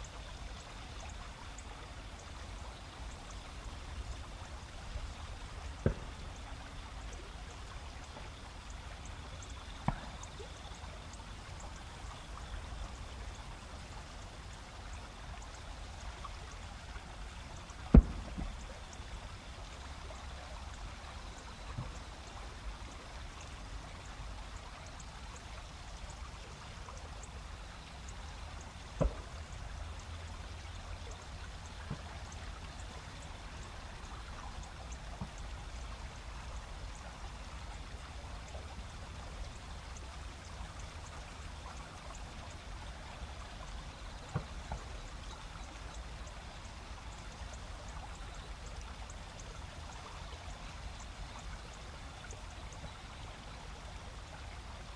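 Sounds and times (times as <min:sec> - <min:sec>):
insects chirping: 0:00.0 - 0:49.6.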